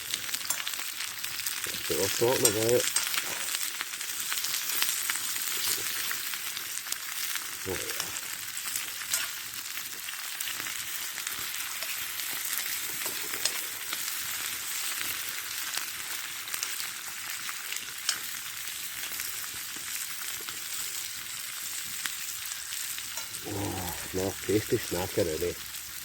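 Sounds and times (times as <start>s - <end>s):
sharp frying pops: 0.0s - 26.0s
vegetables sizzling in a skillet: 0.0s - 26.0s.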